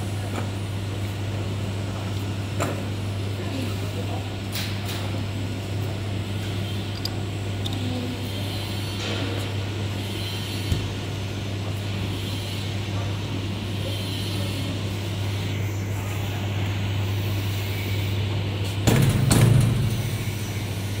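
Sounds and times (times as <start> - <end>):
low hum of running equipment: 0.0 - 21.0.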